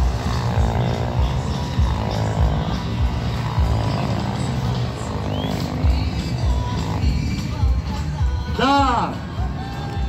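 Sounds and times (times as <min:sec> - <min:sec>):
loud music with pulsing bass beat: 0:00.0 - 0:10.0.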